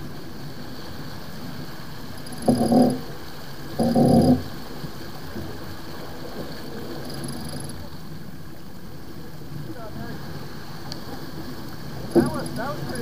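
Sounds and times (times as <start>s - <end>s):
water rushing: 0.0s - 13.0s
wind: 0.0s - 13.0s.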